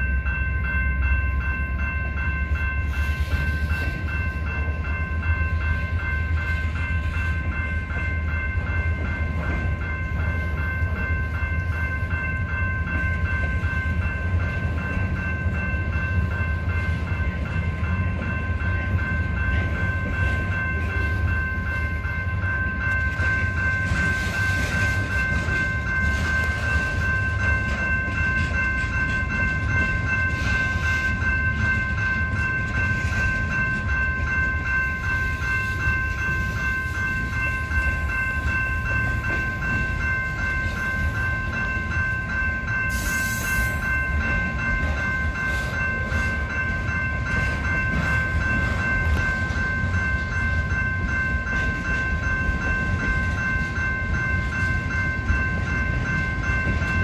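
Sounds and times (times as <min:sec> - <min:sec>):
electronic crossing bell ringing: 0:00.0 - 0:57.0
freight train rumbling: 0:00.0 - 0:57.0.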